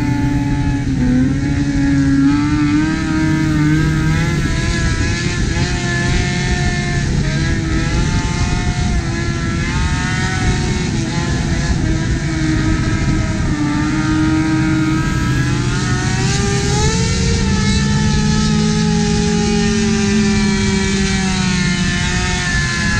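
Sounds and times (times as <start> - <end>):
motorcycle engines at speed: 0.0 - 22.9
road and wind noise: 0.0 - 22.9.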